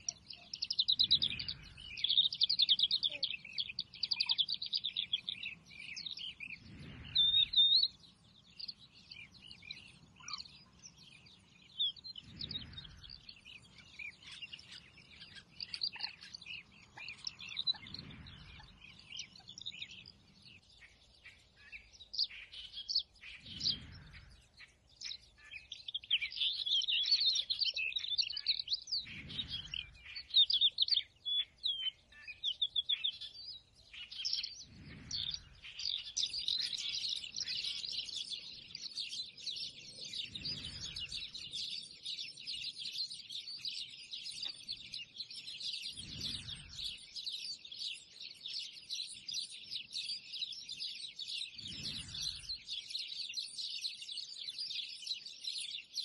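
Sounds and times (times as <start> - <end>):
songbirds singing and chirping: 0.0 - 56.0.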